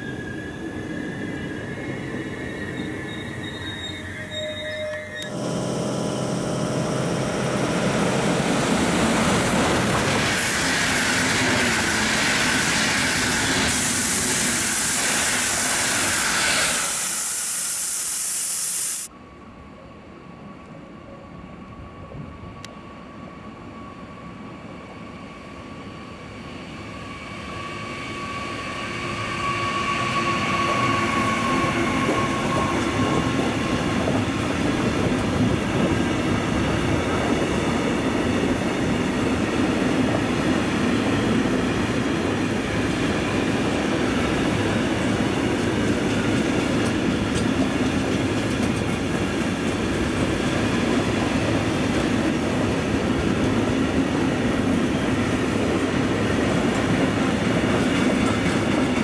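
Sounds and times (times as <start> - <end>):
freight train rumbling: 0.0 - 17.6, 19.5 - 59.0
passenger train rushing past: 0.0 - 59.0.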